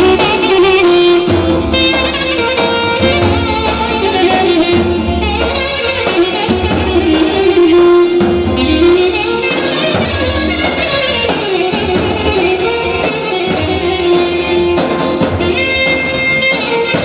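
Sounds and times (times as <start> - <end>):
melody over drums and bass: 0.0 - 17.0.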